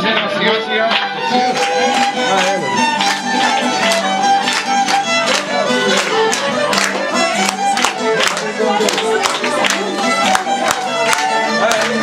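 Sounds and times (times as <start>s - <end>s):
violin melody: 0.0s - 12.0s.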